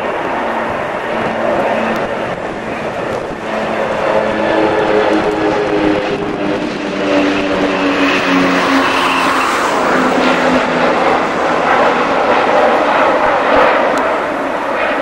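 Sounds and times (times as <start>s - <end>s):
aircraft passing by: 0.0s - 15.0s.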